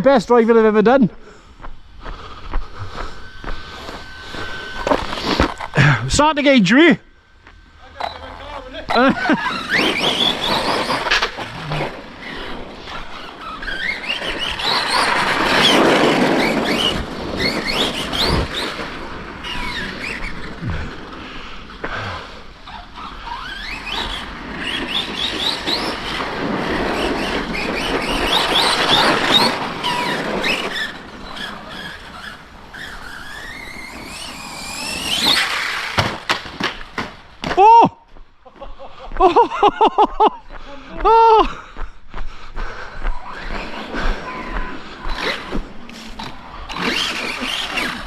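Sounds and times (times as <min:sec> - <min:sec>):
rc car motor whine: 0:01.3 - 0:37.0, 0:43.2 - 0:48.0
tyres spinning on dirt: 0:02.7 - 0:07.0, 0:07.8 - 0:37.6, 0:43.1 - 0:48.0.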